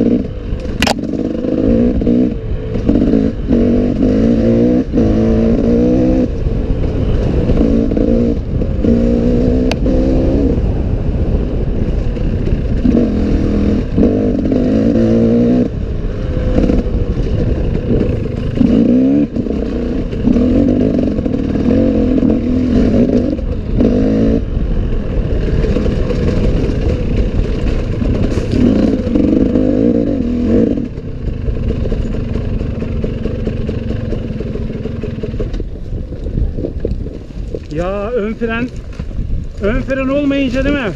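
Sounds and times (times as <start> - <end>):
dirt bike engine revving: 0.0 - 35.6.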